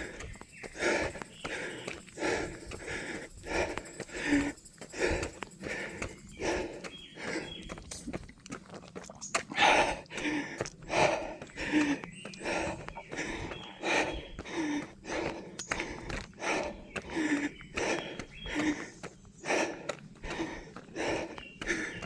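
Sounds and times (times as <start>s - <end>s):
runner breathing heavily: 0.0s - 22.0s.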